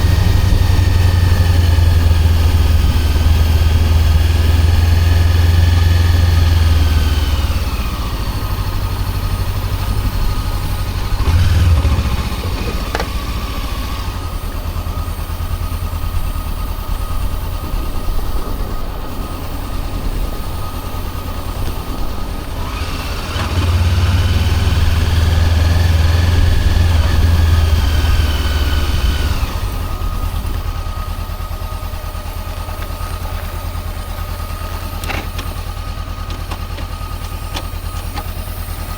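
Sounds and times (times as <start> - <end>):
motorcycle engine with whine: 0.0 - 38.9.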